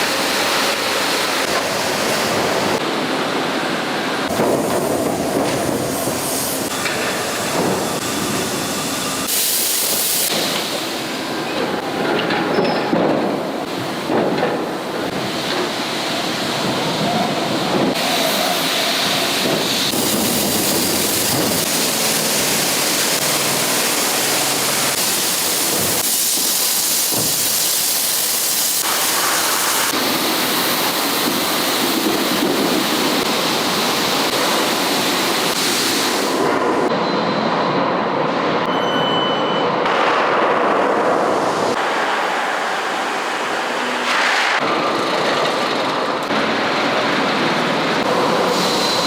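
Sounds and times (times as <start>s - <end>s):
steel mill machinery rushing: 0.0s - 37.0s, 39.8s - 49.0s.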